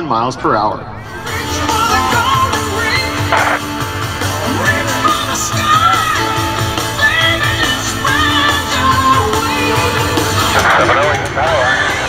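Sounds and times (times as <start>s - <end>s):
music with singing: 1.0s - 12.0s
steady bass line: 1.1s - 12.0s.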